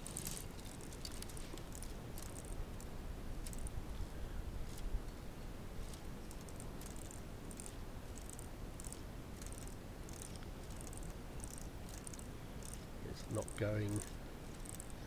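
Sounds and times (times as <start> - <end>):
light plastic ratchet clicks: 0.1 - 3.7, 5.8 - 12.8, 13.4 - 15.0.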